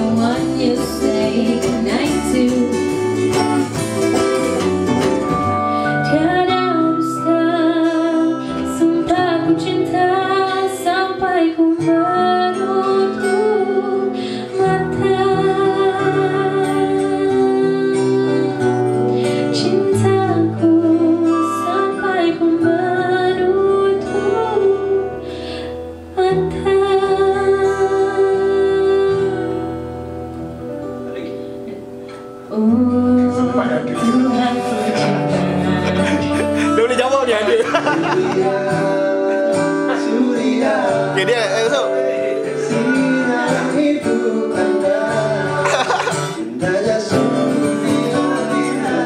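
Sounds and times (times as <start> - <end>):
woman singing: 0.0 - 3.6, 5.8 - 30.3, 32.5 - 36.6, 37.7 - 41.2, 42.5 - 49.0
strummed acoustic guitars: 0.0 - 49.0.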